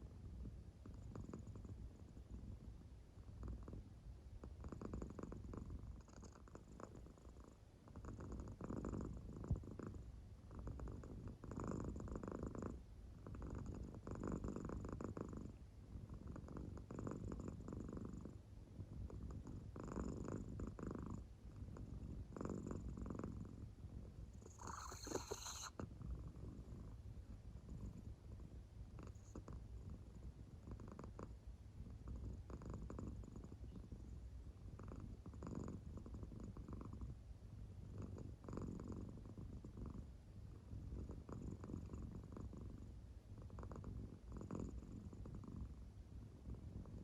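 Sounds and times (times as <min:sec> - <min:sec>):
cat purring faintly: 0:00.0 - 0:47.0.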